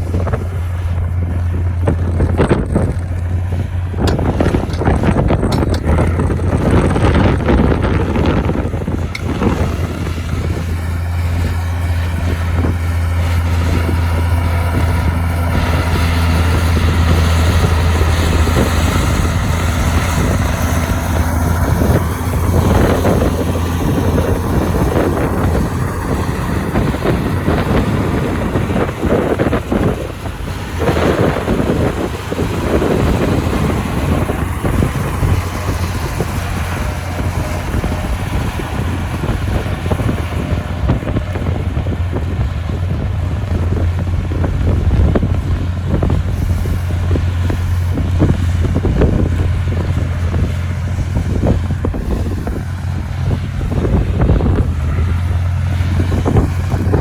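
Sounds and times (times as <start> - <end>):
diesel earthmoving machine droning: 0.0 - 57.0
wind buffeting microphone: 0.0 - 57.0.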